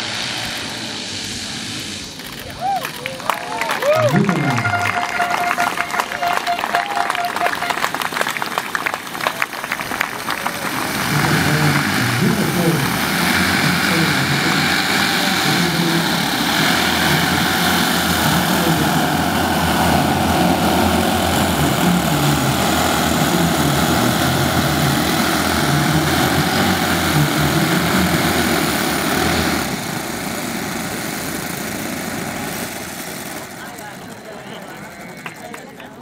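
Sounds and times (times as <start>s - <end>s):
model aircraft engines droning: 0.0s - 36.0s.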